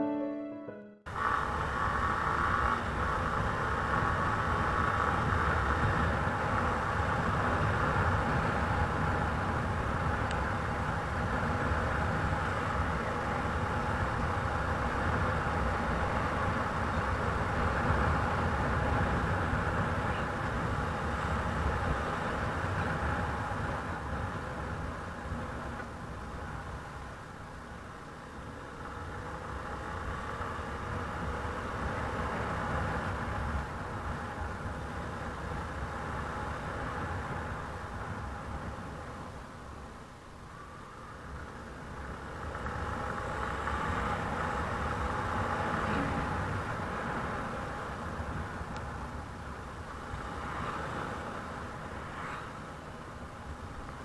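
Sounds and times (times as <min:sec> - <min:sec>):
vehicle driving on road: 0:01.1 - 0:54.0.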